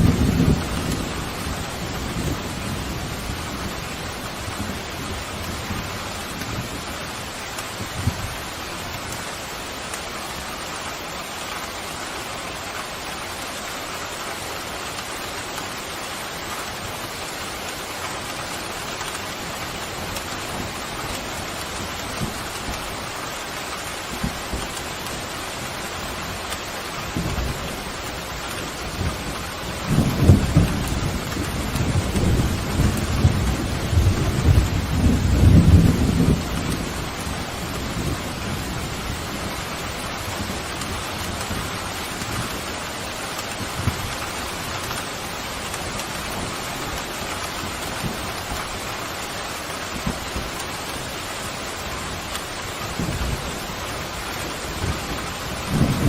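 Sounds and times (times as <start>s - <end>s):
thunder rumbling: 0.0s - 9.6s, 17.6s - 56.0s
heavy rain hissing: 0.0s - 56.0s.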